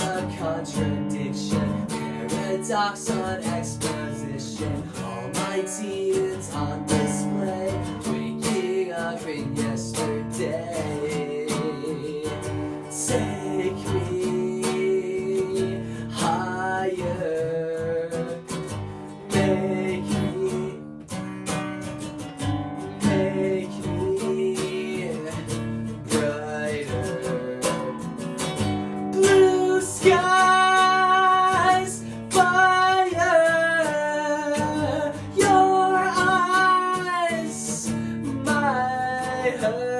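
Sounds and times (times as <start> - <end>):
person singing: 0.0 - 20.8, 22.9 - 39.9
acoustic guitar strumming: 0.0 - 39.9.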